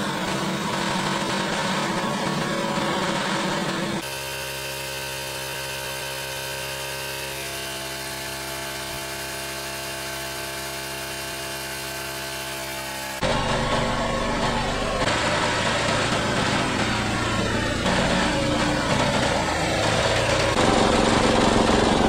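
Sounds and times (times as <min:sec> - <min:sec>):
air compressor motor humming: 0:00.0 - 0:22.0
loud rough noise: 0:00.0 - 0:22.0.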